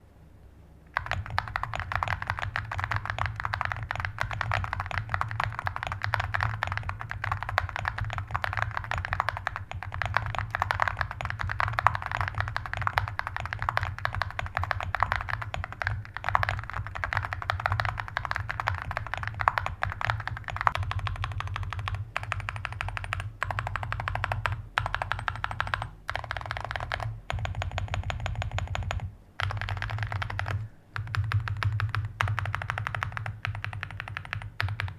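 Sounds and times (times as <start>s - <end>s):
mechanical keyboard typing: 0.9s - 34.9s.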